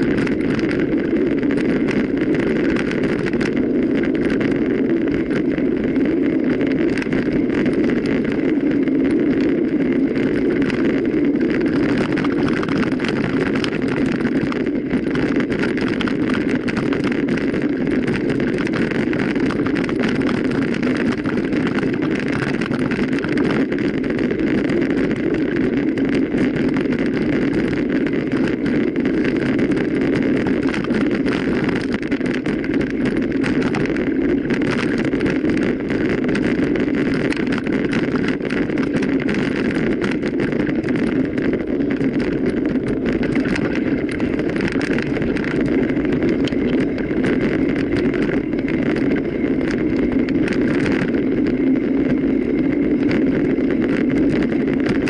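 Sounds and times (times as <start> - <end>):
bike rattling and clicking: 0.0 - 55.0
bike tyres rushing: 0.0 - 55.0
wind on microphone: 0.0 - 55.0.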